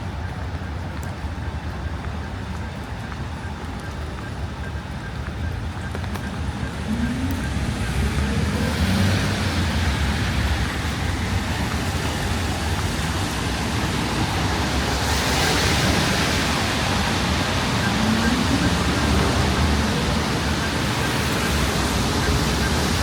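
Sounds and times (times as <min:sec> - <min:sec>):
low traffic rumble: 0:00.0 - 0:23.0
rain hissing on a street: 0:00.0 - 0:23.0
tyres passing on wet road: 0:00.0 - 0:23.0.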